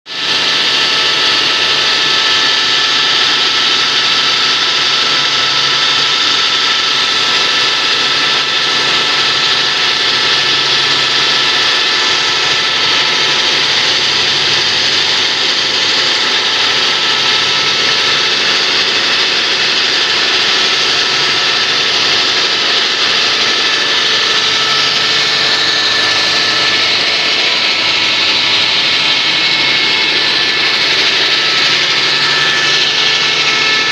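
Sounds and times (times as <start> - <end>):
stone saw grinding and whining: 0.1 - 33.9.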